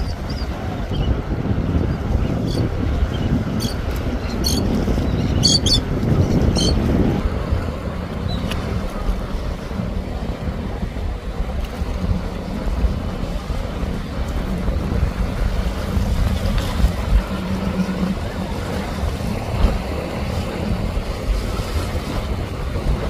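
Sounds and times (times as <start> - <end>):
boat engine rumble: 0.0 - 23.0
surf: 0.0 - 23.0
wind on microphone: 0.0 - 23.0.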